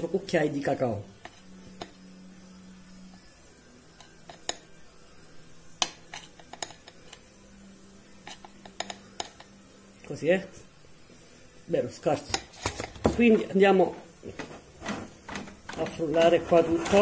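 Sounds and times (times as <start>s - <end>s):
faint steady hum: 0.0s - 16.6s.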